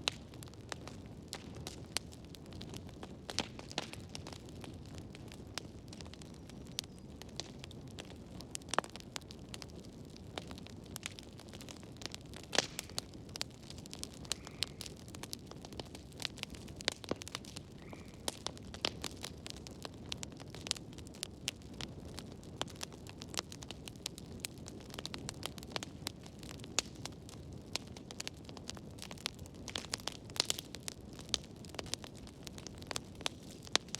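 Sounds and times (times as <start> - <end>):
low rumble of flame: 0.0 - 33.9
wood fire crackling and popping: 0.0 - 33.9.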